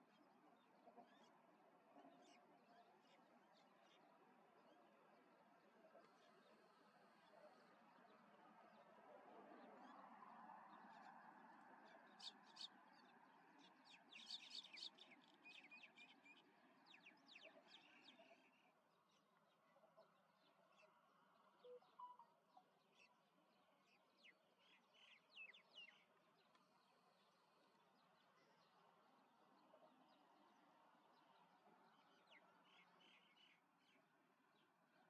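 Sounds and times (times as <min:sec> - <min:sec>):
faint birdsong chirps: 0:00.0 - 0:35.0.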